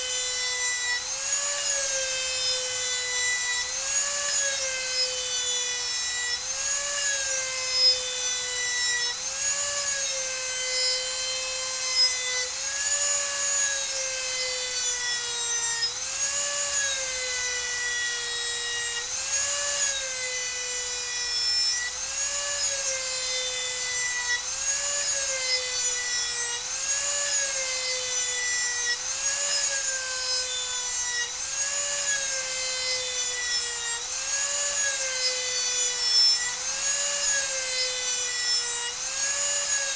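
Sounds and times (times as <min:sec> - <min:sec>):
rotary tool grinding metal blade: 0:00.0 - 0:39.9.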